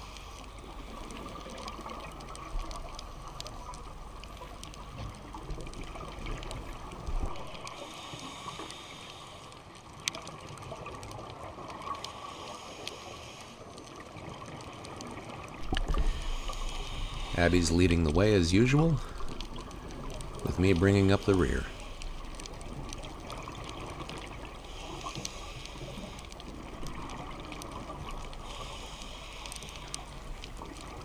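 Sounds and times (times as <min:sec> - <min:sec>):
faint clicks: 0:00.0 - 0:31.0
muffled underwater hiss: 0:00.0 - 0:31.0.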